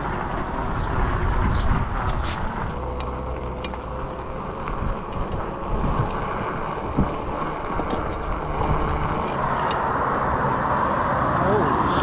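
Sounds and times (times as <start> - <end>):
wind buffeting microphone: 0.0 - 9.9
bicycle tyres rolling on gravel: 0.0 - 10.1.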